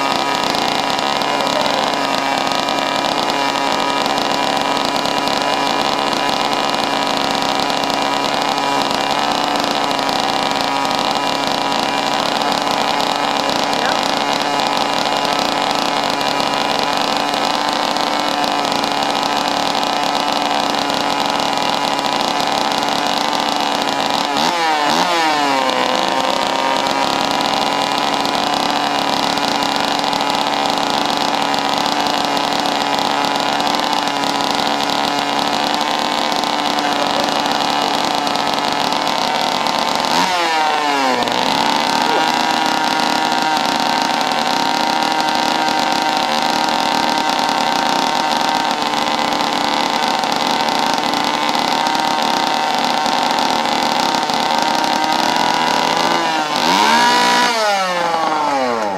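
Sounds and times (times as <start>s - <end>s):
two-stroke chainsaw engine running: 0.0s - 58.9s.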